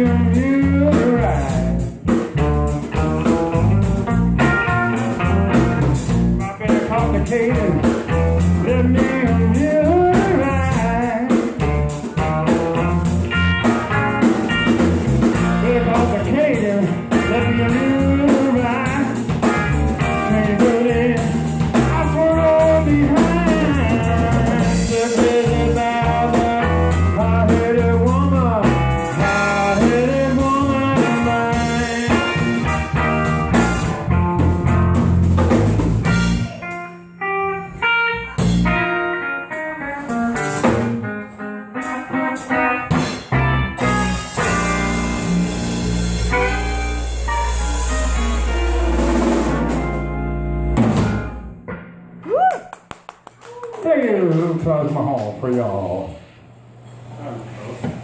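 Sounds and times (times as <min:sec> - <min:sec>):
electric bass: 0:00.0 - 0:52.5
drum kit: 0:00.0 - 0:53.6
electric guitar: 0:00.0 - 0:55.5.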